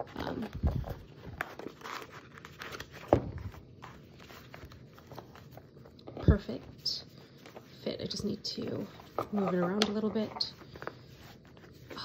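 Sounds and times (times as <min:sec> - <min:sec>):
leather and paper rustling: 0:00.0 - 0:12.0.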